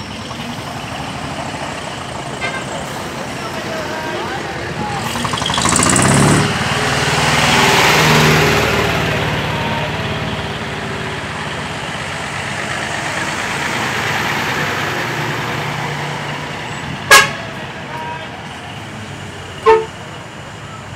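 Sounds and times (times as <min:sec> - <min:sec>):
diesel truck engine driving past: 0:00.0 - 0:20.9.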